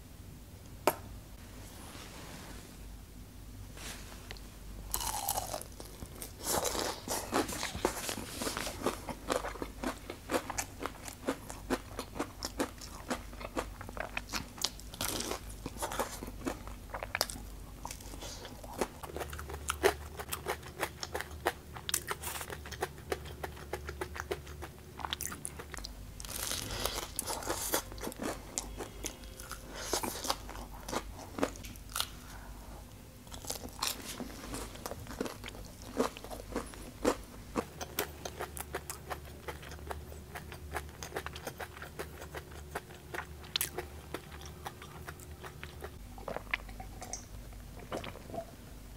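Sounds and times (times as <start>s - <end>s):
crunchy biting and chewing: 4.9s - 32.3s, 33.3s - 47.2s.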